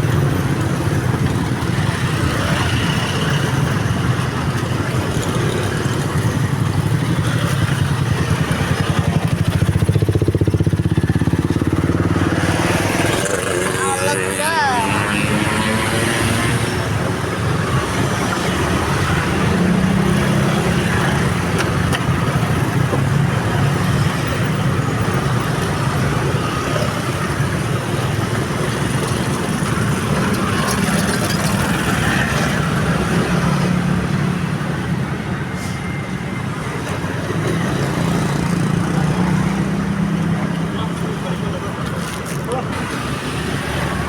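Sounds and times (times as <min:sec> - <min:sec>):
road traffic engines humming: 0:00.0 - 0:44.0.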